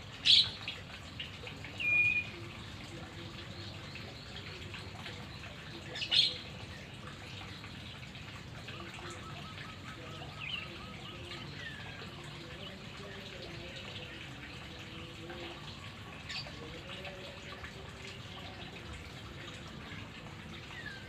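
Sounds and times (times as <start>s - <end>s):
trickle of running water: 0.0s - 21.0s.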